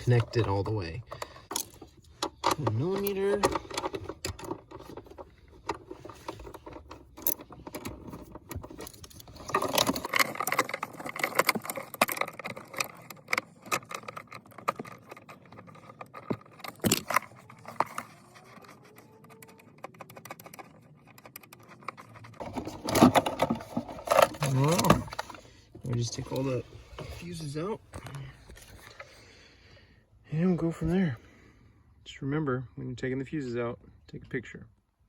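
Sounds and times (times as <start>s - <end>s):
small hard parts clicking and rattling: 0.0s - 29.2s.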